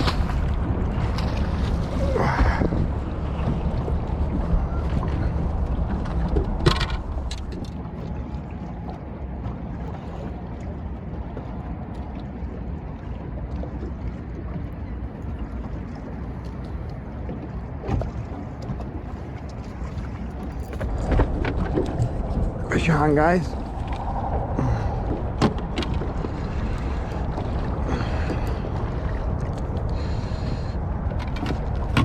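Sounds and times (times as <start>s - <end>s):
wind buffeting microphone: 0.0s - 11.5s, 17.0s - 32.0s
boat engine rumble: 0.0s - 32.0s.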